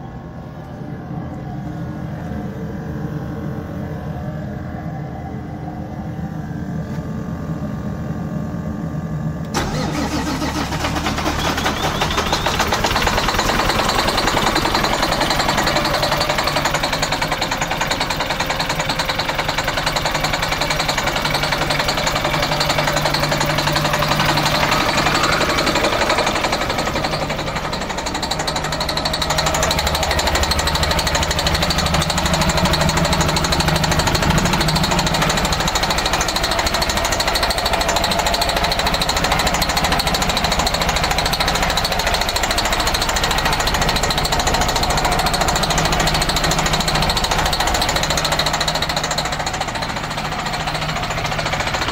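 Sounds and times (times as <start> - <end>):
diesel engine running rough: 0.0 - 51.9.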